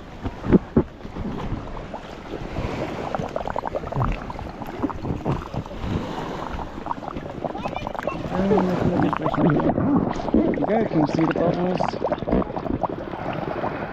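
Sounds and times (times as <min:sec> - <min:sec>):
air bubbling underwater: 0:00.0 - 0:13.9
water sloshing: 0:00.0 - 0:13.9.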